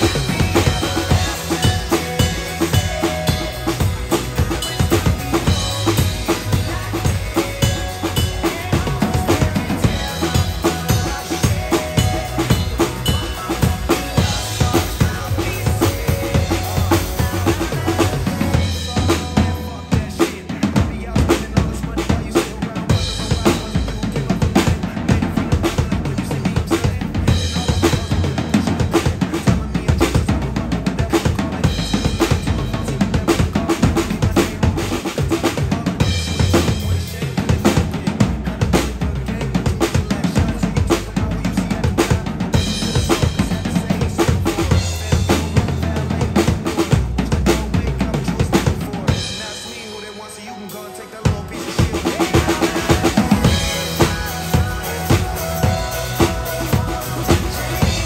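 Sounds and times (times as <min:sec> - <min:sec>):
drum kit playing pop groove: 0:00.0 - 0:58.0
pop backing track: 0:00.0 - 0:58.0.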